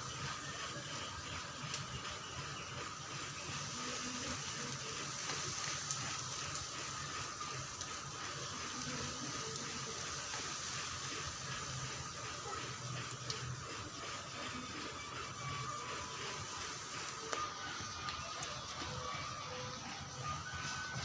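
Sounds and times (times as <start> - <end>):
water running: 0.0 - 21.0.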